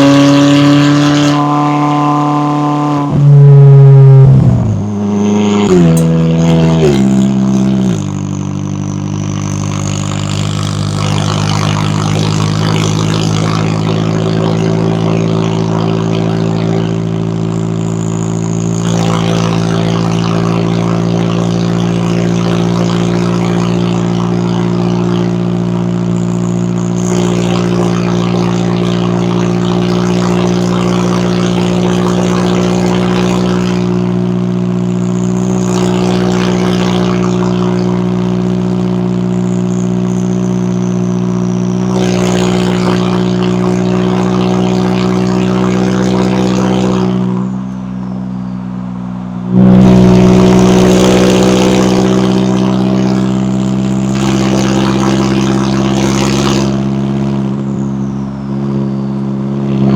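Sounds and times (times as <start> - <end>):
sports car engine running: 0.0 - 59.9.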